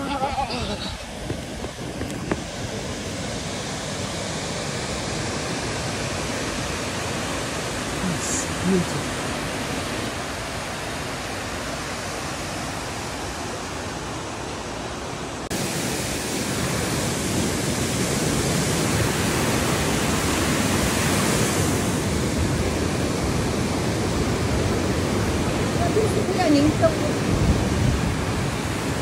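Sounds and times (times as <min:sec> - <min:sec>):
stream rushing over cascades: 0:00.0 - 0:29.0.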